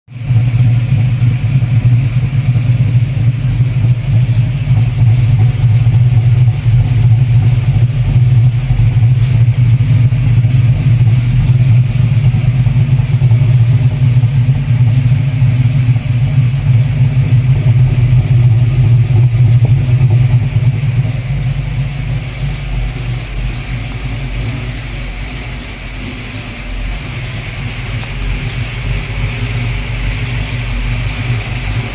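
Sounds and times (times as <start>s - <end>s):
car engine idling: 0.1s - 31.9s.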